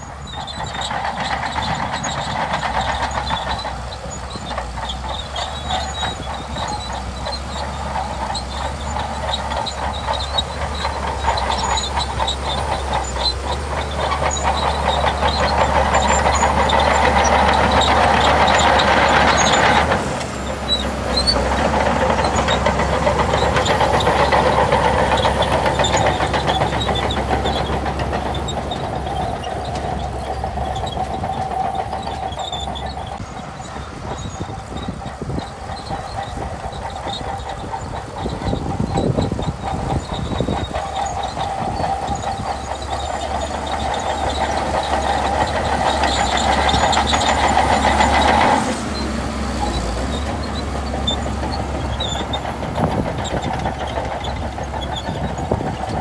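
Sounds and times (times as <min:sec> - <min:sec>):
bulldozer diesel engine rattling: 0:00.0 - 0:56.0.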